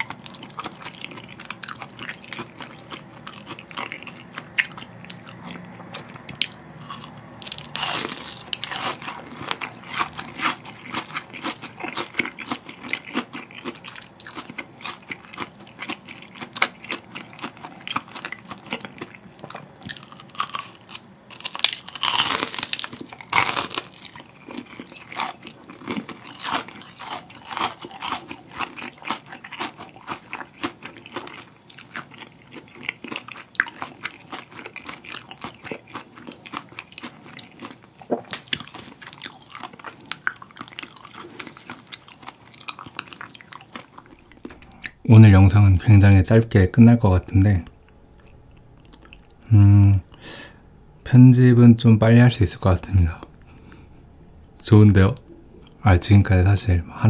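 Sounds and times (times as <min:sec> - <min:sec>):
crunching and chewing fried shrimp: 0:00.0 - 0:45.1, 0:47.4 - 0:50.6, 0:52.6 - 0:55.8.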